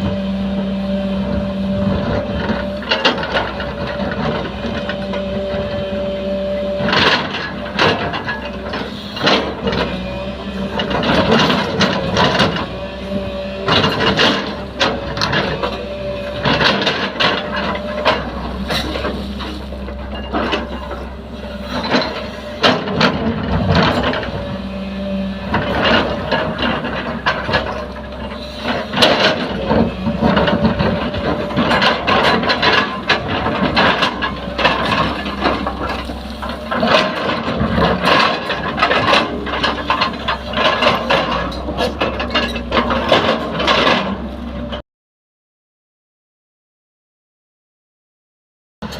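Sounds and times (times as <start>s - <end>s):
diesel engine running: 0.0s - 44.8s
hoe clanking and scraping: 0.0s - 44.8s.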